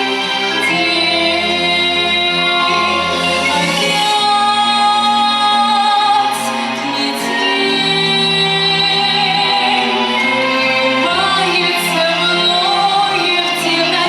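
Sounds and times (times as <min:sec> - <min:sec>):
woman singing pop song: 0:00.0 - 0:14.0.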